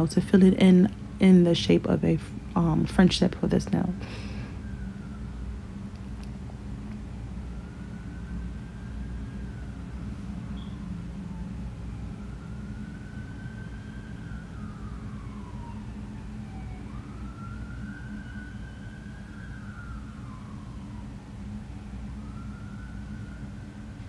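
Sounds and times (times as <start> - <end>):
steady low hum: 0.0 - 24.0
siren wailing: 3.4 - 24.0.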